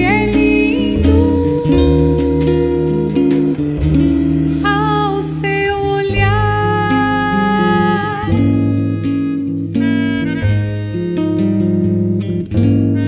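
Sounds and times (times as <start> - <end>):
acoustic guitar chords: 0.0 - 13.0
bass: 0.0 - 13.0
melodica melody: 0.0 - 13.0.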